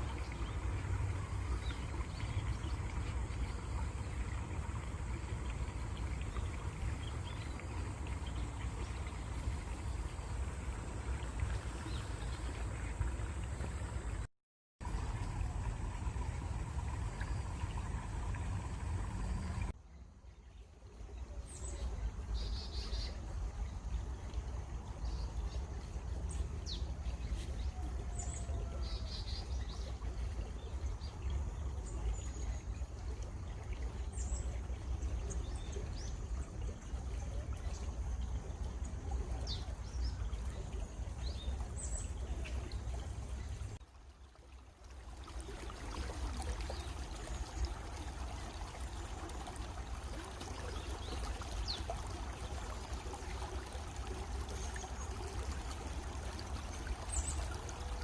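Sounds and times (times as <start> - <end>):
stream water running: 0.0 - 58.0.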